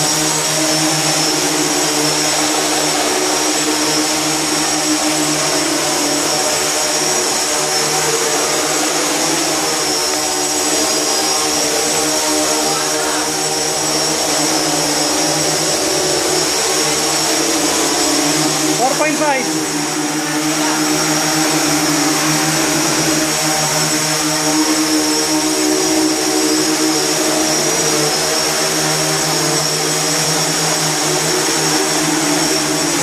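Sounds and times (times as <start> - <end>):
drone propellers buzzing: 0.0 - 33.0.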